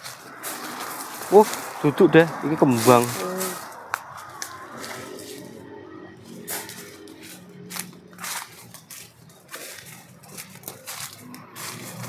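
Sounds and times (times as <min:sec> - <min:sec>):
footsteps crunching through dry leaves: 0:00.0 - 0:12.0.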